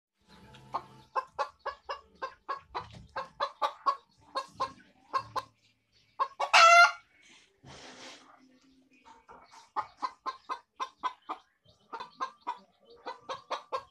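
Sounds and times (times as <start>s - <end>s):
chickens clucking: 0.2s - 13.9s.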